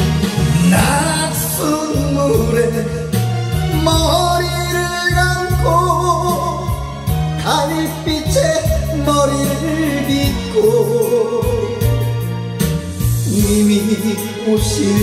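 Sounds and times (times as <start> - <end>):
karaoke ballad backing track: 0.0 - 15.0
man singing into a microphone: 0.5 - 12.4, 13.1 - 15.0.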